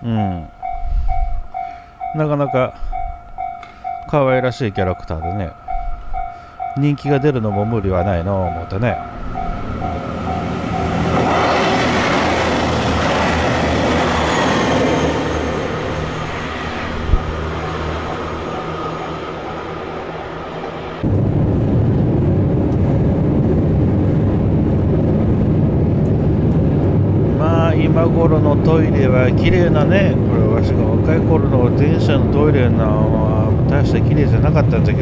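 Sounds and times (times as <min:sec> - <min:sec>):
train rumble and track noise: 0:00.0 - 0:35.0.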